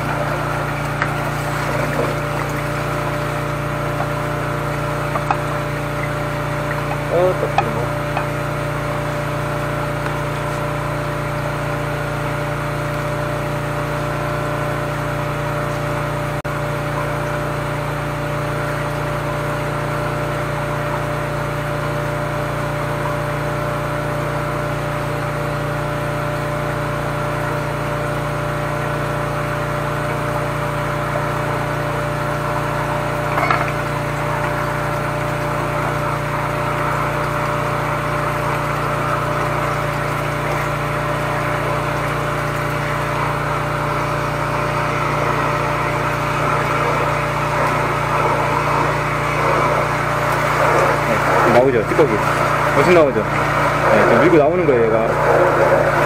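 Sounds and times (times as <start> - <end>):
sewer jetter pump running: 0.0 - 56.0.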